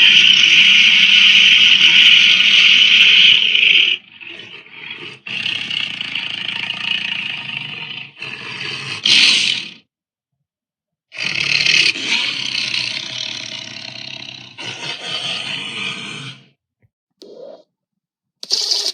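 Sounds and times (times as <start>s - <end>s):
creature roaring: 0.0s - 9.9s, 11.1s - 16.6s.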